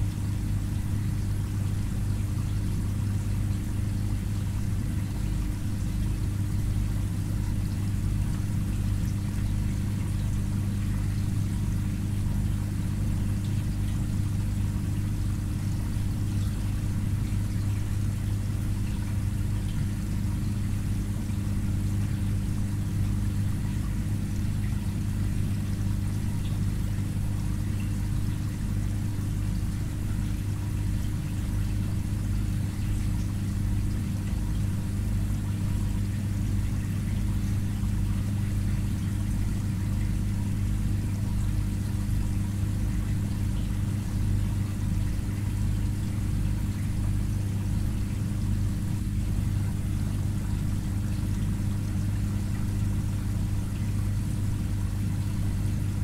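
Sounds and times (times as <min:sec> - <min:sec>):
filter pump humming: 0:00.0 - 0:56.0
water trickling and pouring: 0:01.0 - 0:55.8.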